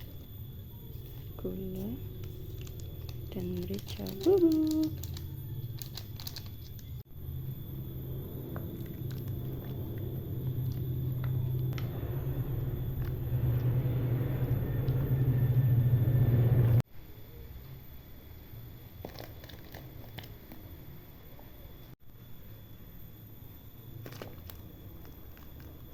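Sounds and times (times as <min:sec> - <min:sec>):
low rumble of pot heating: 0:00.0 - 0:25.9.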